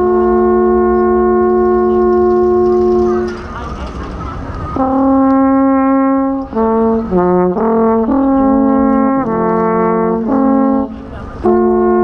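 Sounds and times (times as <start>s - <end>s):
alphorn playing slow tune: 0.0s - 3.3s, 4.8s - 12.0s.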